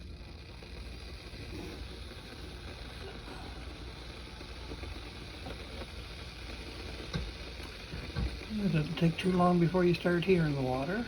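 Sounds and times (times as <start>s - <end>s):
electric kettle heating water: 0.0s - 11.0s.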